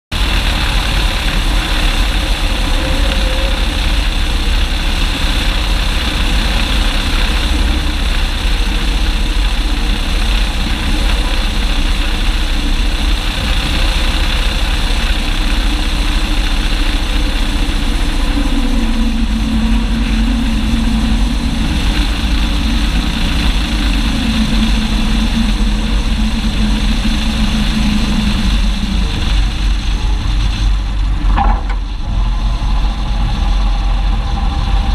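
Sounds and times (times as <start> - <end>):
plane engine and propeller: 0.1 - 34.9
steady drone: 0.1 - 34.9
wind rushing over microphone: 0.1 - 34.9.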